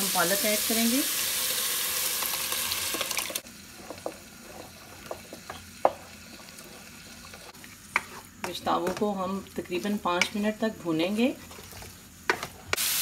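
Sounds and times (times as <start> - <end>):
masala sizzling in a pot: 0.0 - 13.0.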